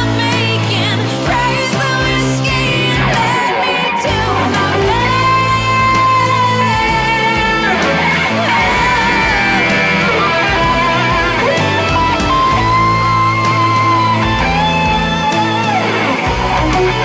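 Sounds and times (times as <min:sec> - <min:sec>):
woman singing: 0:00.0 - 0:14.0
bass guitar: 0:00.0 - 0:17.0
drums: 0:00.0 - 0:17.0
electric guitar: 0:00.0 - 0:17.0.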